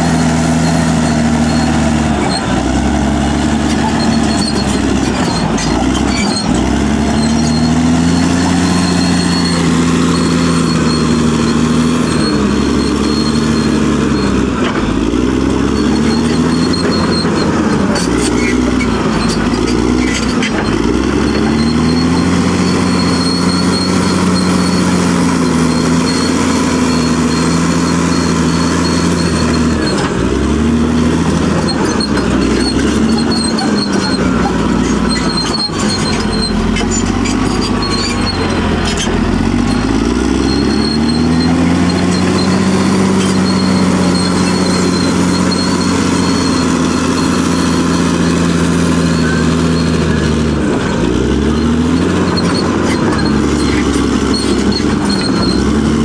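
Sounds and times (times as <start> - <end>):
bulldozer diesel engine running hard: 0.0 - 56.0.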